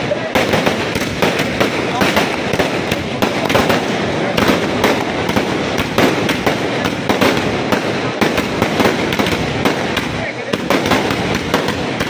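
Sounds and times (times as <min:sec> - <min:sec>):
fireworks crackling: 0:00.0 - 0:12.0
fireworks sharp bangs: 0:00.0 - 0:12.0.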